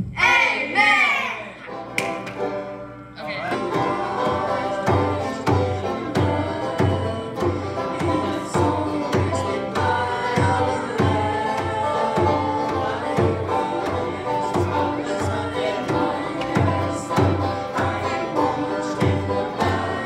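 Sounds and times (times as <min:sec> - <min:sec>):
strummed acoustic guitar: 0:01.7 - 0:20.0
children singing together: 0:03.6 - 0:20.0
hand percussion: 0:03.6 - 0:20.0.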